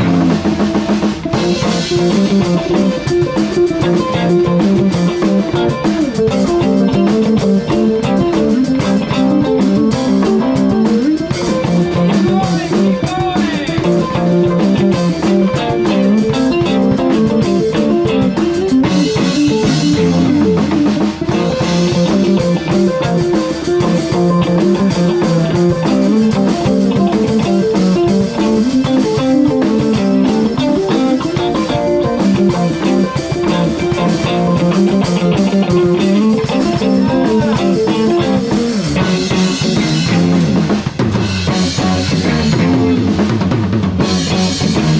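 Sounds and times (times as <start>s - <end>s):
guitar: 0.0s - 44.9s
live band playing: 0.0s - 44.9s.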